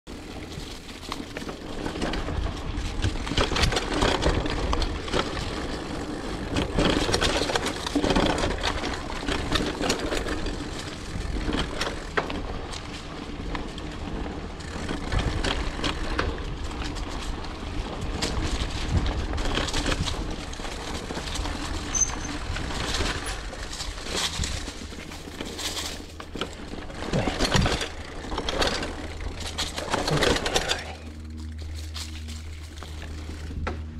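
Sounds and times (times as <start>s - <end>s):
bike clattering and rattling: 0.1s - 33.9s
bike tyre noise: 0.1s - 33.9s
wind rumble on microphone: 0.1s - 33.9s.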